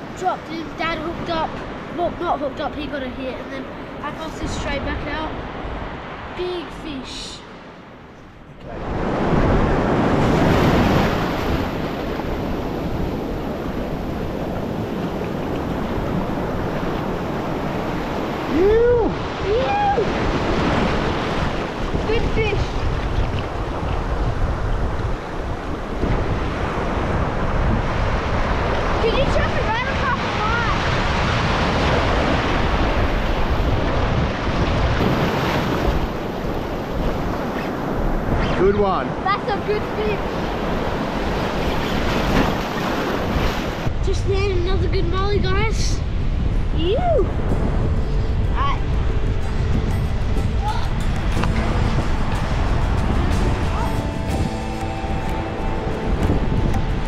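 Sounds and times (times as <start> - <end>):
wind buffeting microphone: 0.0 - 57.0
surf breaking on beach: 8.6 - 57.0.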